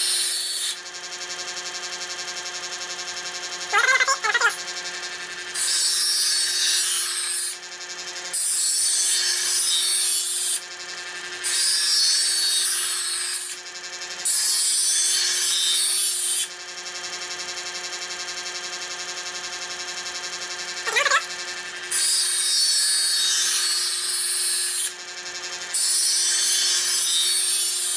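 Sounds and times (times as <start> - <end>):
knife sharpener motor humming: 0.0 - 27.9.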